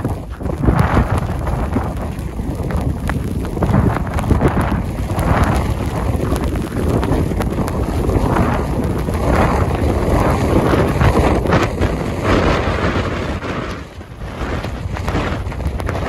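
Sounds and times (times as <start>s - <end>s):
blizzard wind buffeting microphone: 0.0s - 16.0s
hiss of wind-driven snow: 0.0s - 16.0s.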